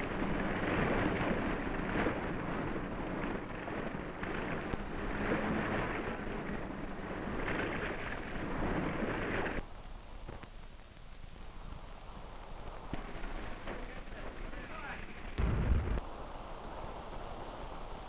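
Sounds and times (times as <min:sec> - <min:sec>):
sea noise surging: 0:00.0 - 0:09.6, 0:11.5 - 0:18.0
rushing wind: 0:00.0 - 0:10.4, 0:11.3 - 0:18.0.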